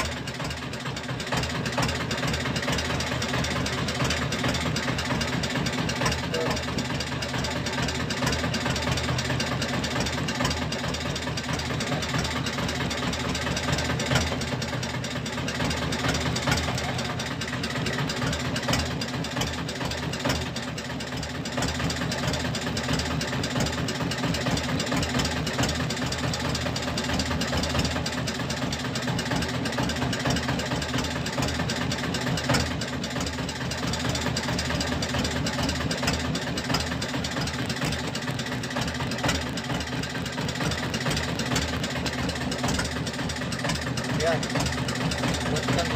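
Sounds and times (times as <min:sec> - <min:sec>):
boat engine idling: 0:00.0 - 0:45.9.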